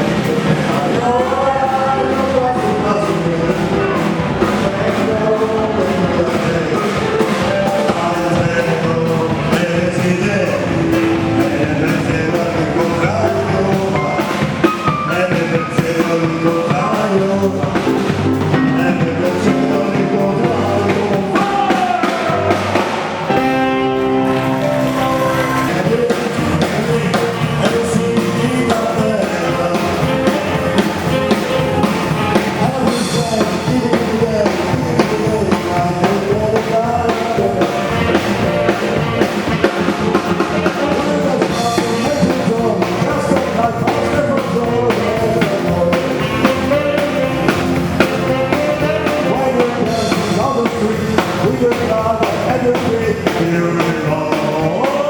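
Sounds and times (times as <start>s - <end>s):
pop-rock music: 0.0s - 55.0s.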